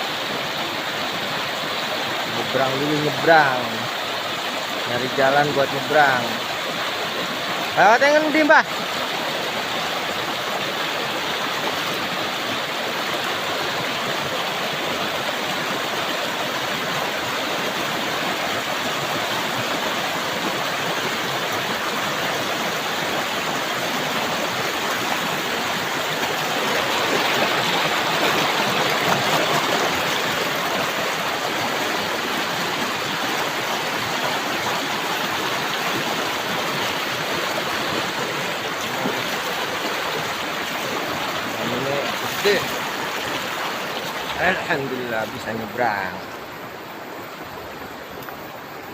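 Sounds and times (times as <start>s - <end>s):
river water rushing over rocks: 0.0s - 48.9s.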